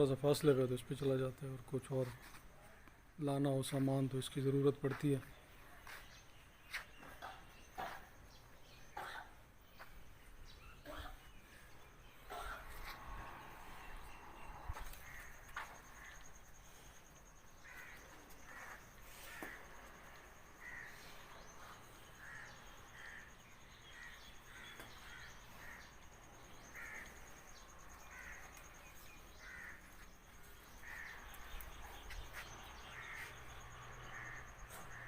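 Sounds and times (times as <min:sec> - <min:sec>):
faint crows cawing: 0:00.0 - 0:35.0.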